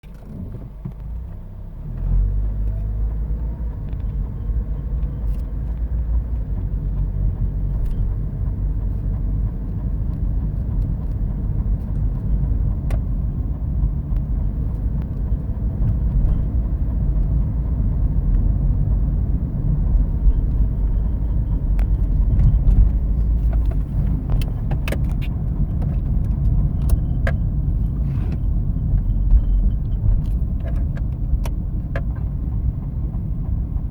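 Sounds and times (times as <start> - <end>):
car engine low rumble: 0.0 - 33.9.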